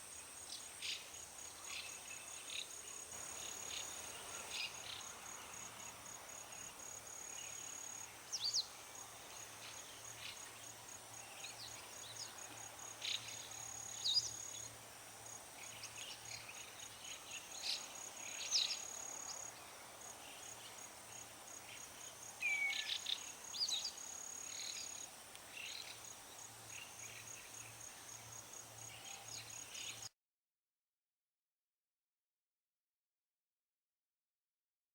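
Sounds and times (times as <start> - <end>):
crickets trilling: 0.0 - 30.1.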